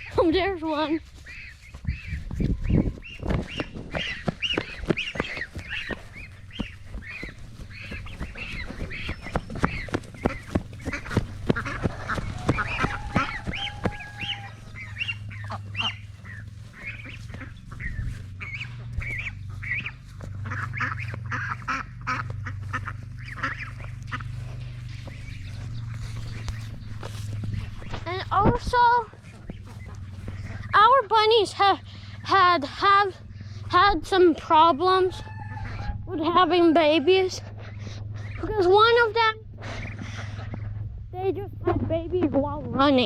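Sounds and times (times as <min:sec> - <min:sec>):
geese honking: 0:00.0 - 0:40.9
ducks quacking: 0:00.0 - 0:43.0
low steady hum: 0:00.0 - 0:43.0.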